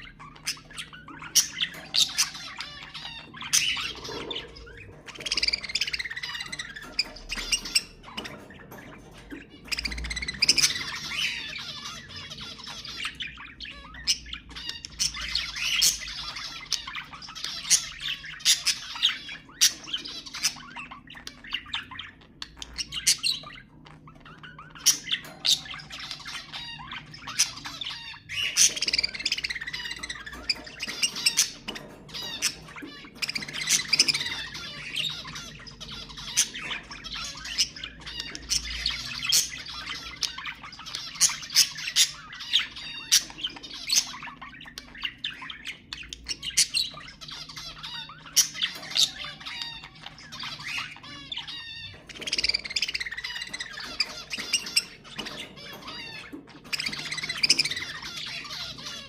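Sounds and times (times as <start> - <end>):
budgerigars chattering: 0.0 - 59.0
sharp squawks: 0.0 - 59.0.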